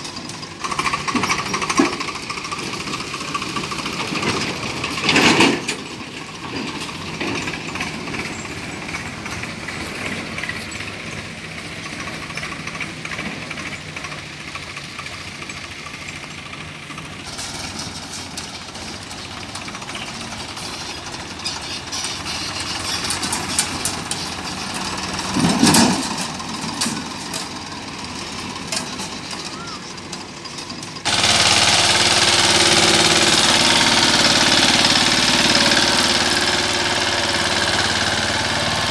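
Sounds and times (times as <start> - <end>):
engine with rattling knock: 0.0 - 38.9.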